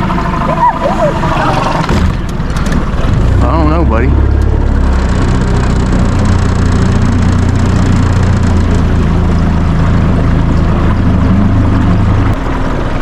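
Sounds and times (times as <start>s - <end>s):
outboard motor humming: 0.0s - 12.8s.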